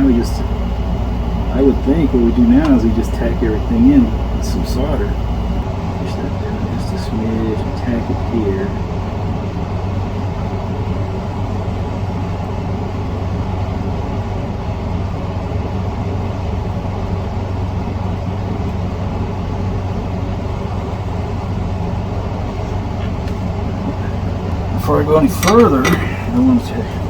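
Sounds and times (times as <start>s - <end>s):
low mechanical hum with hiss: 0.0s - 27.0s.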